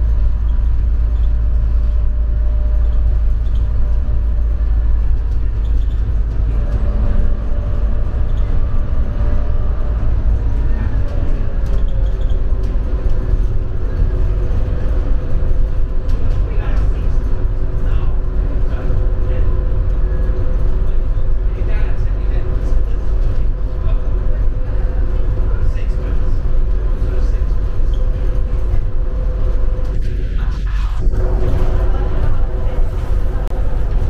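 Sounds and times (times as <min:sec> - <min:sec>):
train rumbling on guideway: 0:00.0 - 0:34.0.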